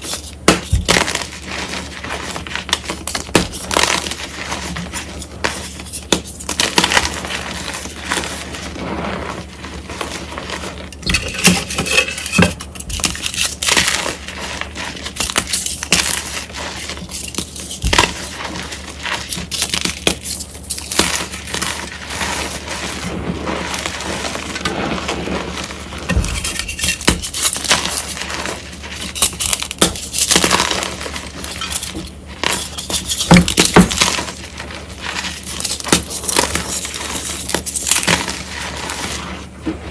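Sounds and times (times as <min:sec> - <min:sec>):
chalk crunching and snapping: 0:00.0 - 0:39.5.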